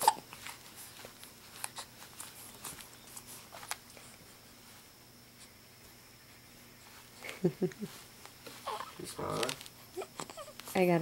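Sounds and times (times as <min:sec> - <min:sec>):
faint soft clicks and rustles: 0:00.2 - 0:06.0, 0:06.8 - 0:11.0.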